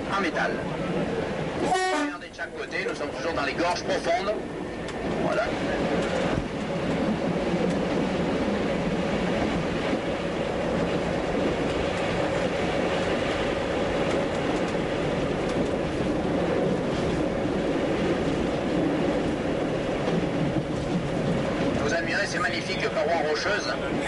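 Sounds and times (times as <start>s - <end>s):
railcar engine: 0.0s - 24.0s.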